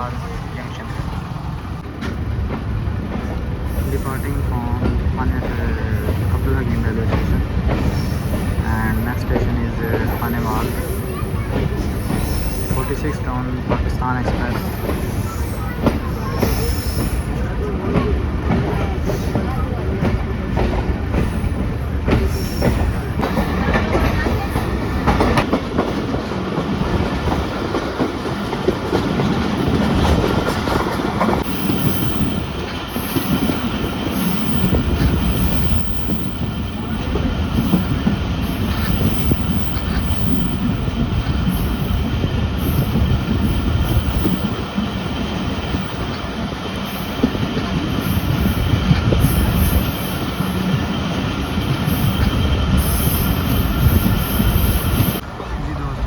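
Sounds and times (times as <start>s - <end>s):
clickety-clack over rail joints: 0.0s - 56.0s
train wheels rumbling: 0.0s - 56.0s.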